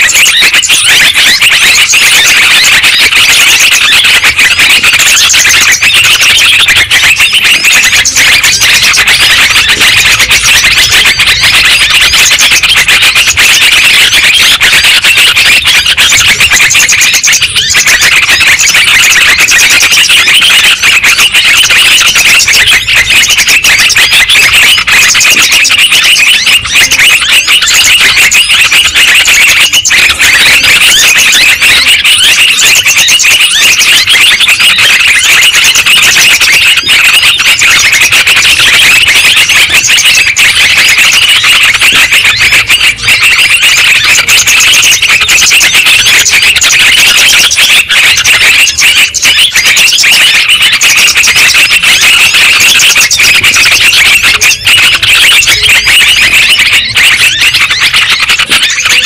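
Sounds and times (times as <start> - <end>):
birds chattering: 0.0 - 59.0.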